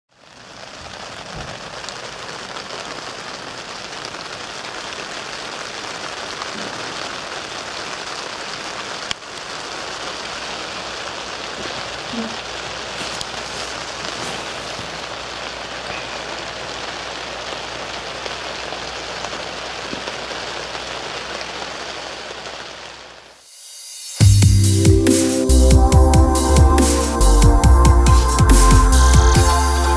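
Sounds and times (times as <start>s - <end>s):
rain falling on a tent: 0.1s - 29.9s.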